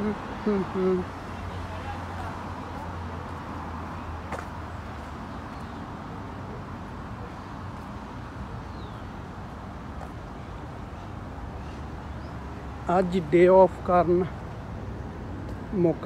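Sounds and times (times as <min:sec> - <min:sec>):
road traffic hum and hiss: 0:00.0 - 0:16.0.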